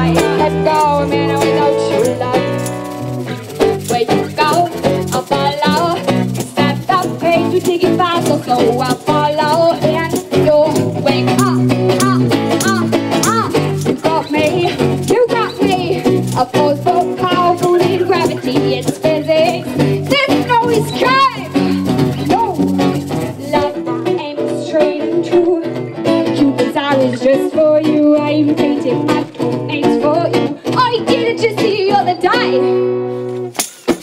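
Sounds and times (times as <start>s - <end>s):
woman singing: 0.0s - 33.1s
strummed acoustic guitars: 0.0s - 34.0s.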